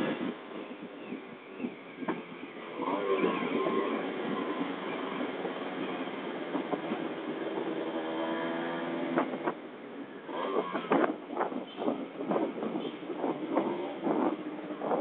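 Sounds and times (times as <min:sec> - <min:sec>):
motorcycle engine running: 0:02.0 - 0:15.0.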